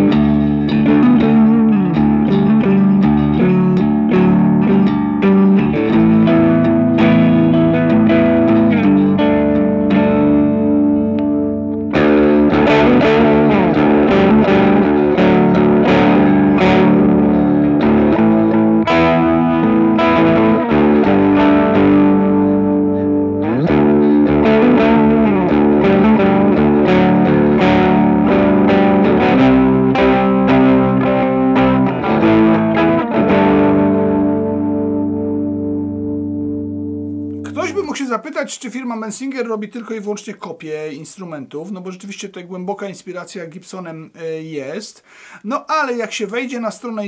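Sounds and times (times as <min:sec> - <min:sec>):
distorted electric guitar: 0:00.0 - 0:38.1.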